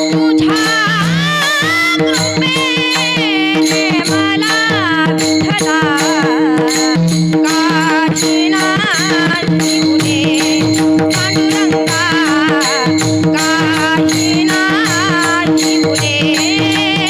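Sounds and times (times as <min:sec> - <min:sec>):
drum strokes: 0:00.0 - 0:17.0
sharp metallic beats: 0:00.0 - 0:17.0
woman singing: 0:00.0 - 0:17.0.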